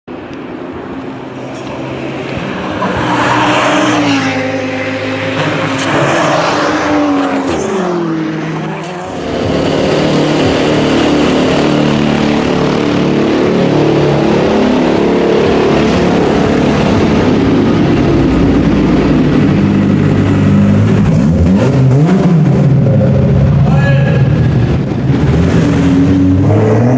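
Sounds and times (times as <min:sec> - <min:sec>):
race car engines: 0:00.1 - 0:26.9.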